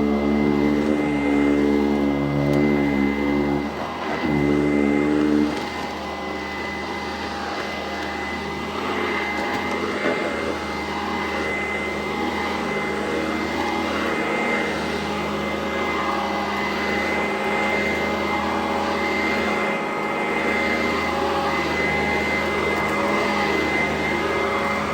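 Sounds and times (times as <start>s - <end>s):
vacuum cleaner running: 0.0s - 24.9s.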